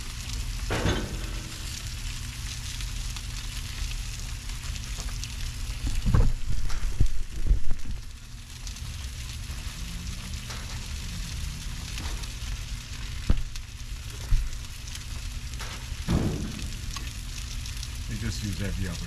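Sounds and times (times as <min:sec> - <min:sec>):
chicken sizzling on a grill: 0:00.0 - 0:19.0.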